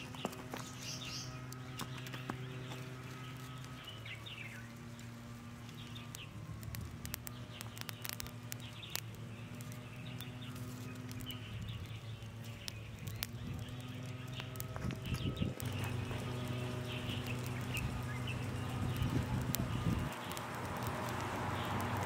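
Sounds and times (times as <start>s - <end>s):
fire crackling and popping: 0.0s - 22.0s
low steady hum: 0.0s - 22.0s
small birds chirping: 0.0s - 22.0s.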